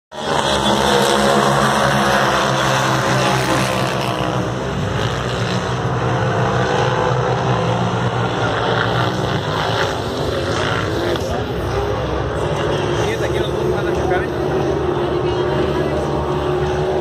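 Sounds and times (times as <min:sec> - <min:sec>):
racing engines accelerating: 0:00.1 - 0:17.0.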